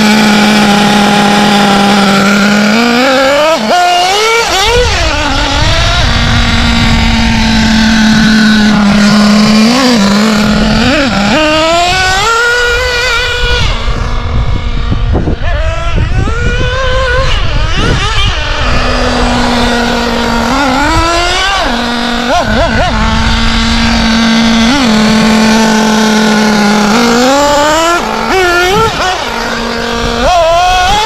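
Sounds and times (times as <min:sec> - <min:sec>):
model nitro engine revving: 0:00.0 - 0:31.0.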